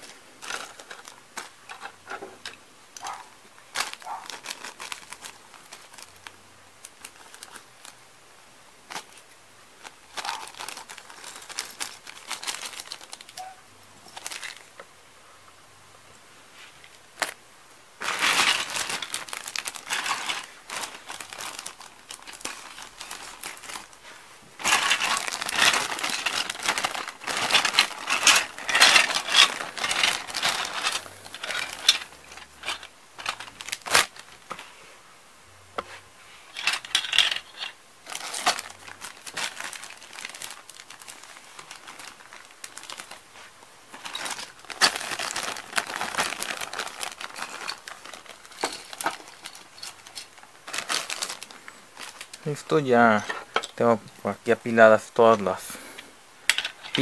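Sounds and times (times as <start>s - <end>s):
plastic bags crinkling: 0.0s - 8.0s, 8.8s - 14.8s, 18.0s - 34.7s, 35.9s - 57.0s.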